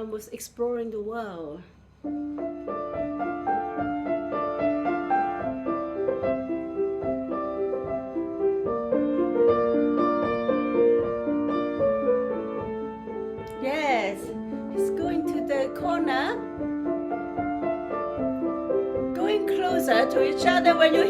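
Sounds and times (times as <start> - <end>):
piano melody: 2.0 - 21.0.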